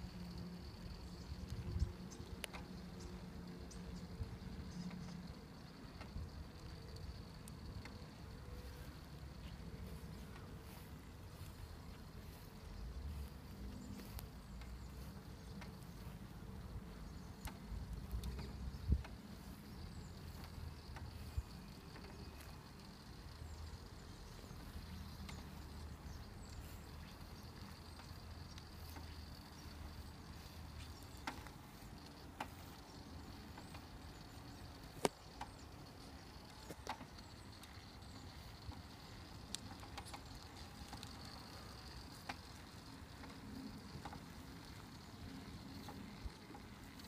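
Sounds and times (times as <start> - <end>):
sharp clicks: 0.0 - 10.6, 11.4 - 47.0.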